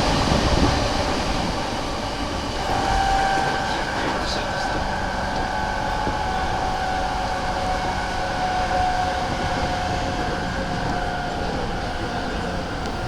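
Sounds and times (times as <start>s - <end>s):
train motor whine: 0.0s - 13.0s
wheels rumbling on rail: 0.0s - 13.0s.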